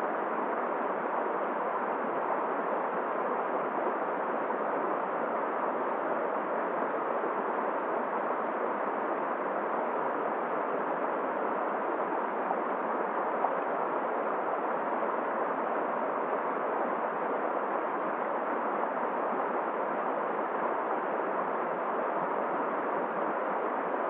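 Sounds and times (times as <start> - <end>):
wind: 0.0 - 24.0.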